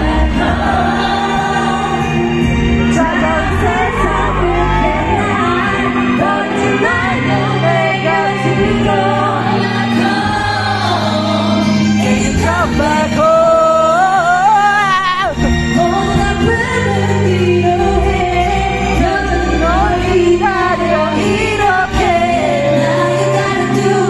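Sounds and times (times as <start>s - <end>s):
live amplified pop song: 0.0s - 24.0s.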